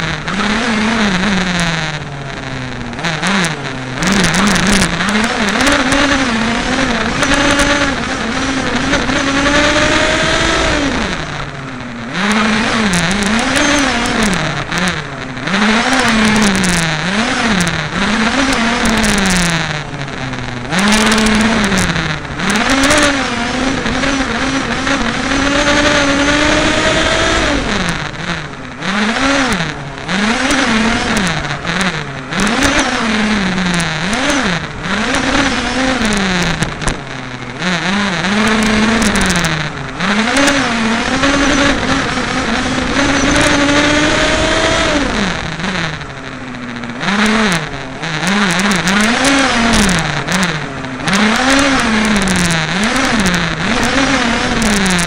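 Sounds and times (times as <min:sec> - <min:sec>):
small two-stroke engine revving: 0:00.0 - 0:55.0.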